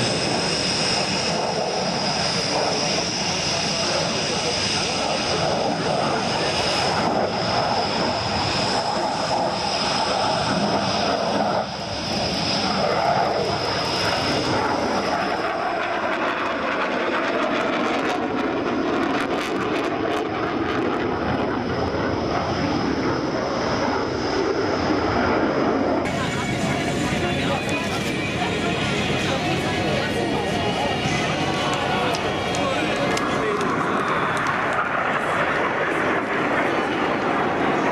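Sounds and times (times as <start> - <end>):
jet engine roar: 0.0 - 37.9.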